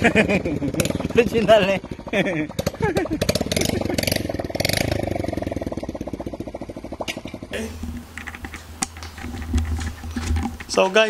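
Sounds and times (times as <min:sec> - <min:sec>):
small motorcycle engine running: 0:00.0 - 0:11.0
steady low hum: 0:00.0 - 0:11.0.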